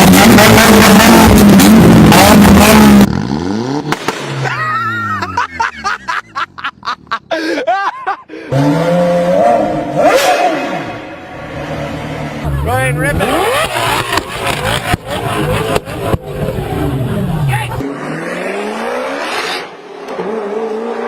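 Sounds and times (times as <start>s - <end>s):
car engines revving: 0.0s - 7.4s, 8.3s - 21.0s.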